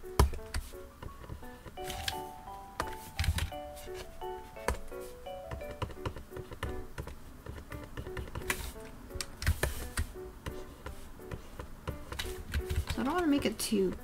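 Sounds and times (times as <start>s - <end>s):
soft background music: 0.0s - 14.0s
stylus tapping on screen: 0.1s - 14.0s.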